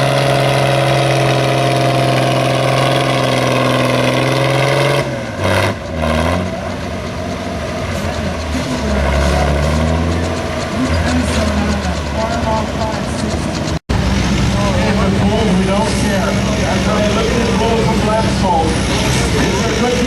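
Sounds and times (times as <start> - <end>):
engines idling and revving: 0.0 - 20.0
tractor engine at high revs: 0.0 - 20.0.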